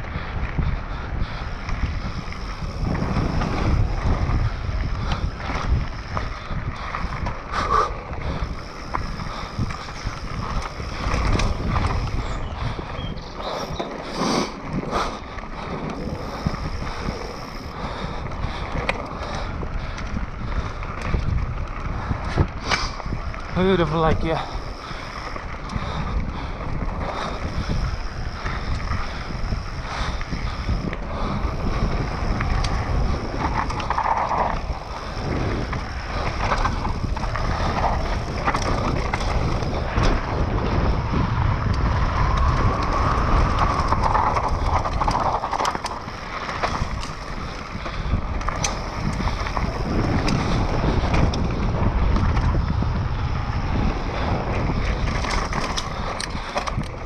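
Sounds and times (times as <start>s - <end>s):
bike rattling over rocky trail: 0.0s - 57.0s
wind on microphone: 0.0s - 57.0s.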